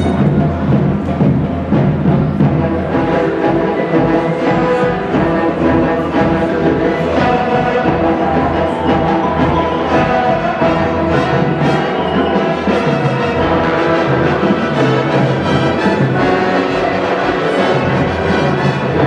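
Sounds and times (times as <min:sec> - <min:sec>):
marching band brass chords: 0:00.0 - 0:19.0
percussion: 0:00.0 - 0:19.0.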